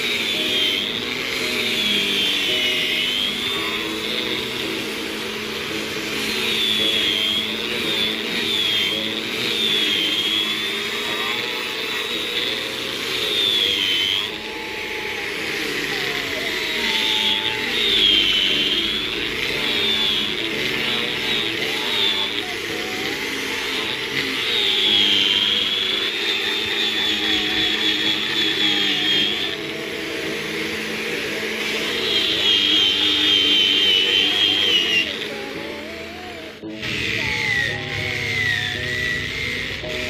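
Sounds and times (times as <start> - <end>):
angle grinder sanding wood: 0.0 - 40.0.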